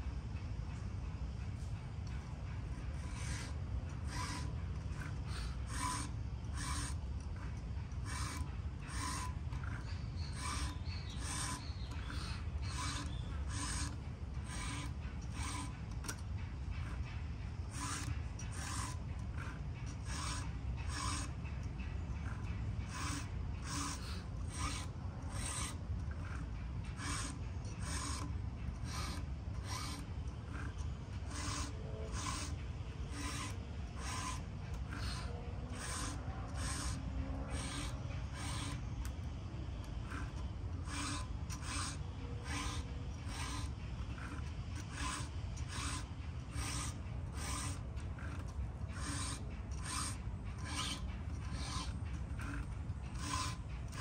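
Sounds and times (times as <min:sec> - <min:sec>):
hand file rasping: 0:02.9 - 0:16.2, 0:17.7 - 0:39.2, 0:39.9 - 0:54.0.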